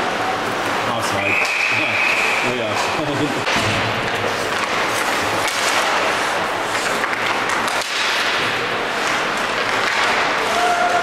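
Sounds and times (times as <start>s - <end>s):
crowd voices: 0.0s - 11.0s.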